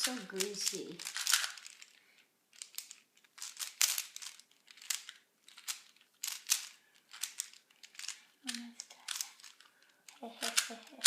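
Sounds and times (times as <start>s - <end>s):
speed cube clicking and scraping: 0.0s - 11.0s.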